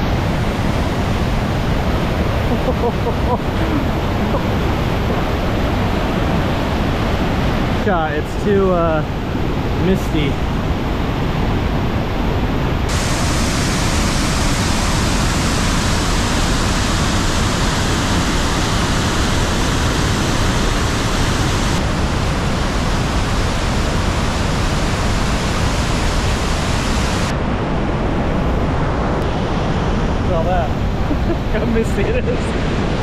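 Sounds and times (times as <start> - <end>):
water rushing over cascades: 0.0 - 33.0.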